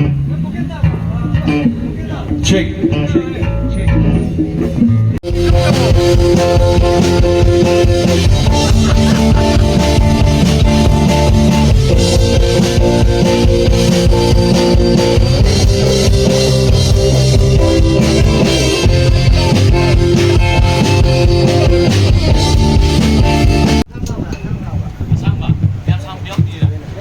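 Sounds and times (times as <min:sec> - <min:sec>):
electric guitar chords: 0:00.0 - 0:23.9
drum kit: 0:00.0 - 0:27.0.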